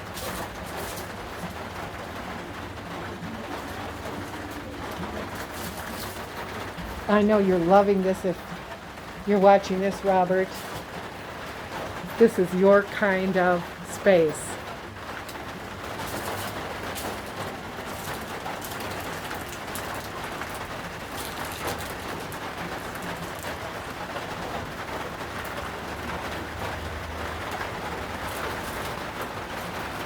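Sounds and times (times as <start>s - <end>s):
rain-like outdoor hiss: 0.0s - 30.0s.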